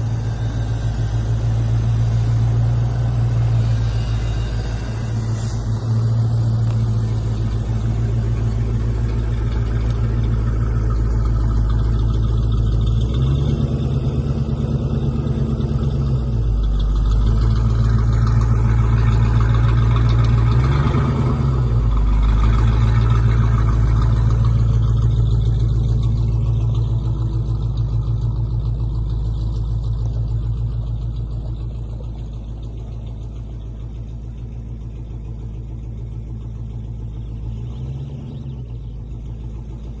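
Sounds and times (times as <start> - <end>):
bulldozer diesel engine revving: 0.0 - 40.0.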